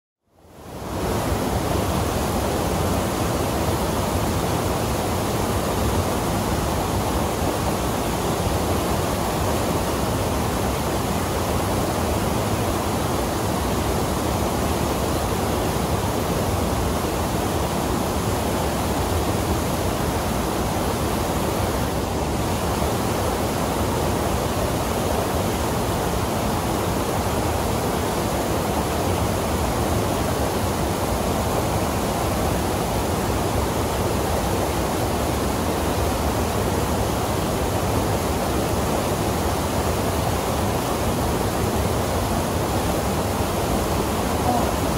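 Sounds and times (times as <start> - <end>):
water rushing over rocks: 0.6 - 44.9.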